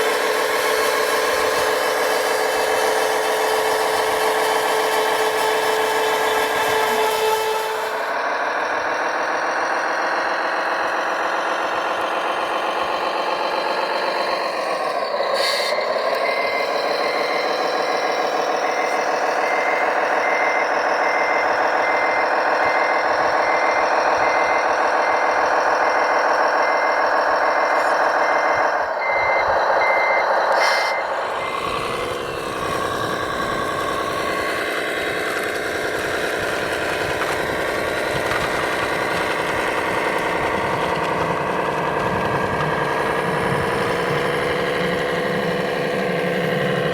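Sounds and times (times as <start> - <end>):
reversing beeper: 0.0 - 46.9.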